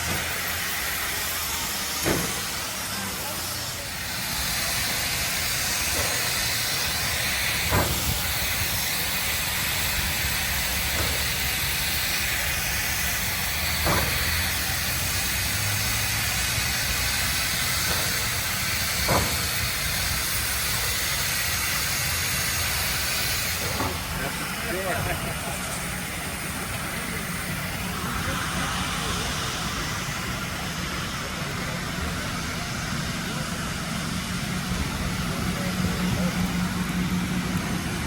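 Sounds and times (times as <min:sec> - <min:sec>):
steam locomotive hissing: 0:00.0 - 0:38.0.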